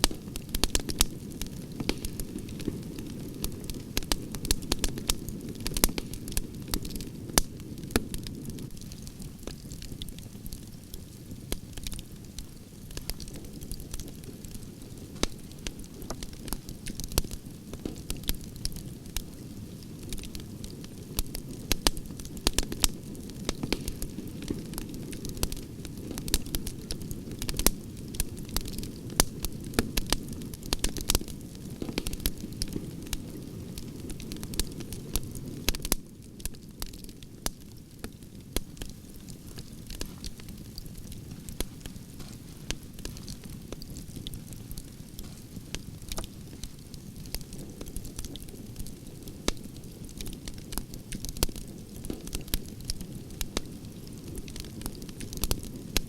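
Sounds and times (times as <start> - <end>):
low rush of flame: 0.0 - 55.9
campfire crackling and popping: 0.0 - 56.0.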